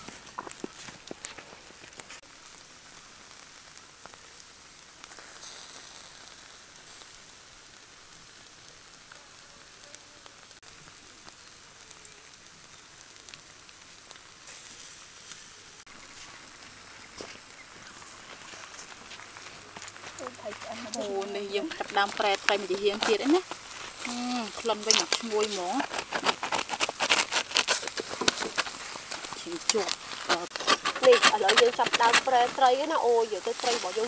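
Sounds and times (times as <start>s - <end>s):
fish sizzling on a grill: 0.0s - 34.0s
small crackles: 0.0s - 34.0s.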